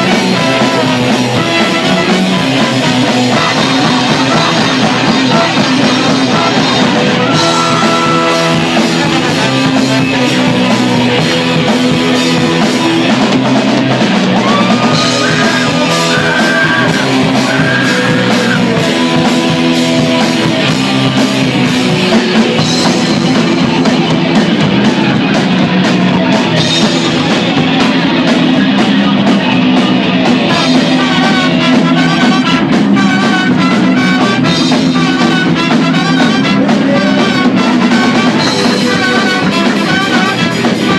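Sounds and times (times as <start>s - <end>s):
person singing and shouting: 0.0s - 13.3s, 14.1s - 20.8s, 24.6s - 40.9s
drum kit: 0.0s - 40.9s
electric bass: 0.0s - 40.9s
electric guitar: 0.0s - 40.9s.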